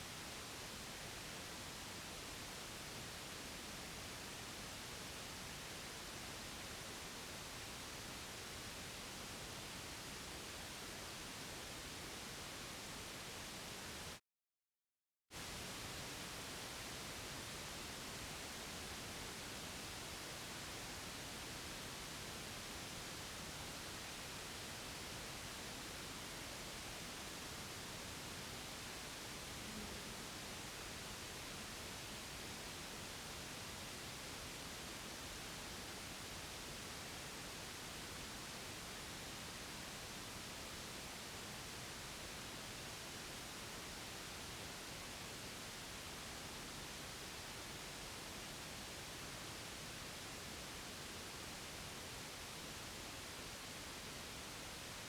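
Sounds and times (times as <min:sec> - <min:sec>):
white noise hiss: 0:00.0 - 0:14.2, 0:15.4 - 0:55.0.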